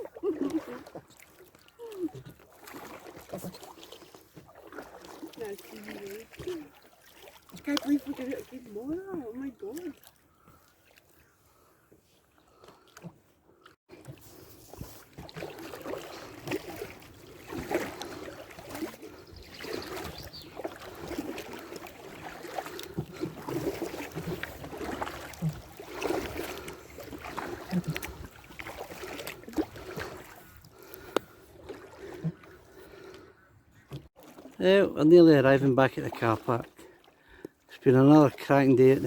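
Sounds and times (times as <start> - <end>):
kayak paddles splashing in water: 0.0 - 39.0.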